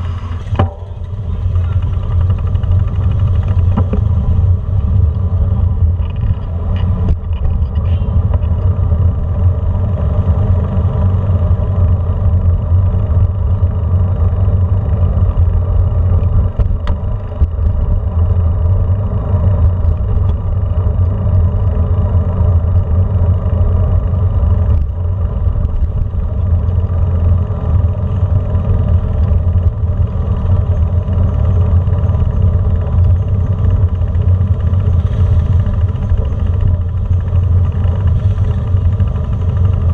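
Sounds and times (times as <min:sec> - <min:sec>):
rumble of riding over bricks: 0:00.0 - 0:39.9
vehicle engines running: 0:00.0 - 0:39.9.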